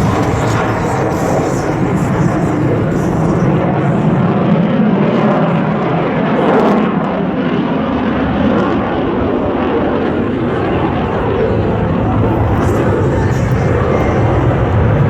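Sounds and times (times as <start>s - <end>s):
jet fighter engine noise: 0.0s - 15.0s.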